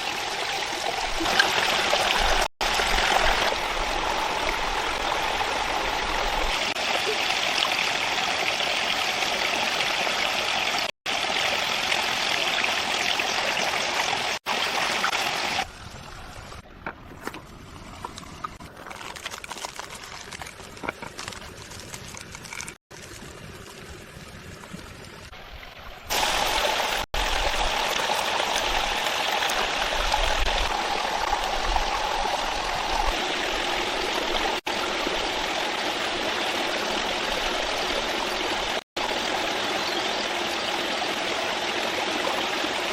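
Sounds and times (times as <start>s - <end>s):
stream water rushing: 0.0s - 18.6s, 25.3s - 42.9s.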